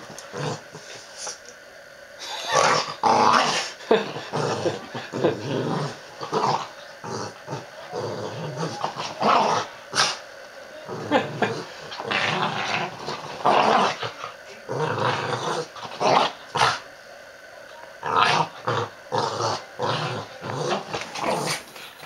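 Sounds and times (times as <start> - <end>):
small dog growling: 0.0 - 1.5, 2.2 - 16.9, 17.6 - 22.0.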